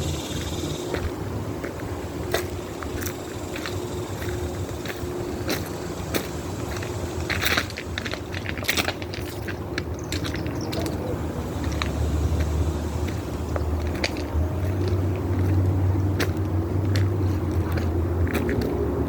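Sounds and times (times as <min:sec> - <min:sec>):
diesel locomotive engines rumbling: 0:00.0 - 0:19.0.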